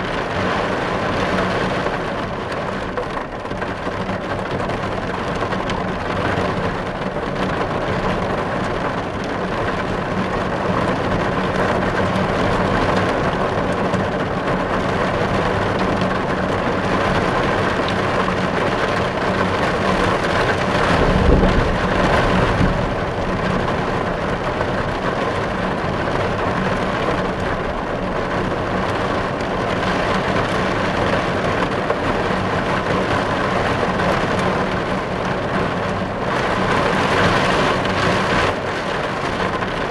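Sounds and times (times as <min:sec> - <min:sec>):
heavy rain drumming on car: 0:00.0 - 0:39.9.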